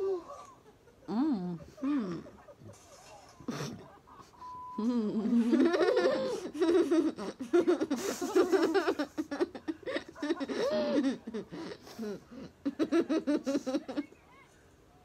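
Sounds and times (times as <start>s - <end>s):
girls giggling: 0.0s - 14.4s.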